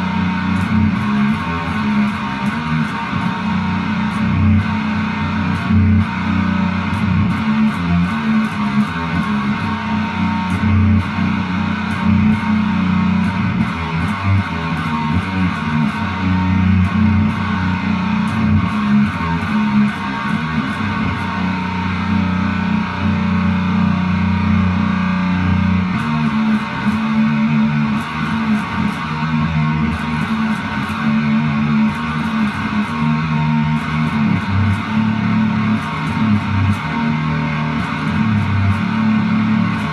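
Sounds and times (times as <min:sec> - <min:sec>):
guitar music with bass: 0:00.0 - 0:39.9.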